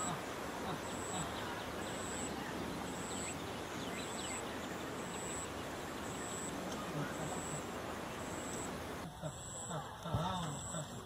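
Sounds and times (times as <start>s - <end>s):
faint chirps: 0.0s - 11.0s
outdoor background noise: 0.0s - 11.0s.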